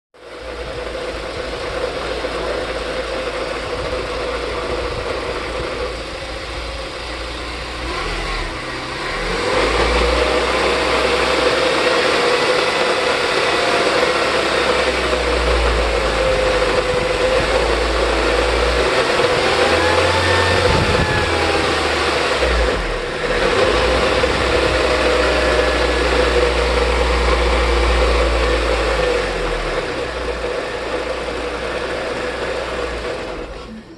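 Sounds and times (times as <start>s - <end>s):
car engine with whine: 0.2s - 33.9s.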